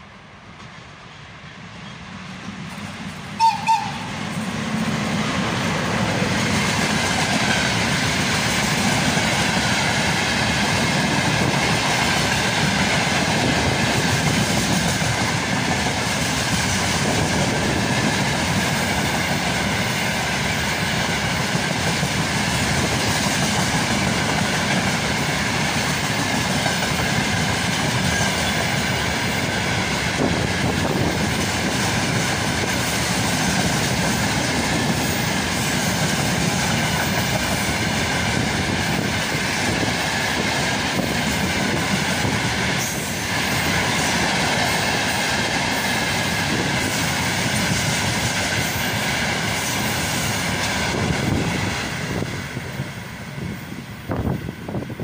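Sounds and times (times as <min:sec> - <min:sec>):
electric locomotive passing: 0:00.0 - 0:55.0
train wheels clacking over rail joints: 0:02.4 - 0:52.4.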